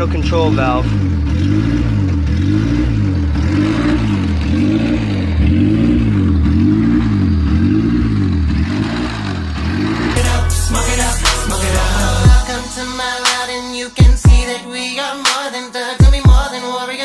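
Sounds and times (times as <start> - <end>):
car engine hunting idle: 0.0 - 14.4.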